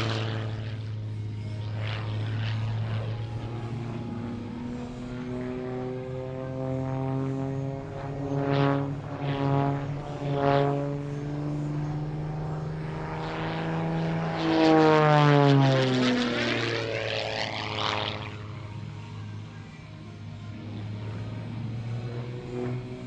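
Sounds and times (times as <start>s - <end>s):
propeller plane droning: 0.0s - 23.0s.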